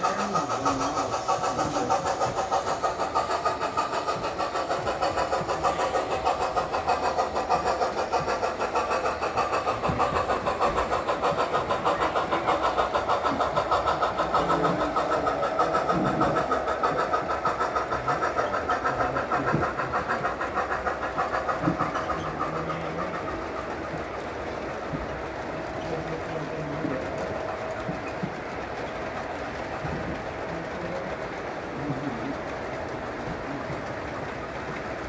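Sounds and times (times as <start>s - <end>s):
model freight cars rolling on track: 0.0s - 35.0s
model steam locomotive chuffing: 0.0s - 35.0s.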